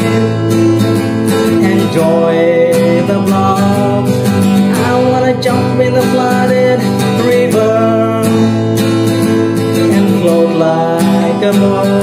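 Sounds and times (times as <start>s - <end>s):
man singing: 0.0s - 12.0s
strummed acoustic guitar: 0.0s - 12.0s.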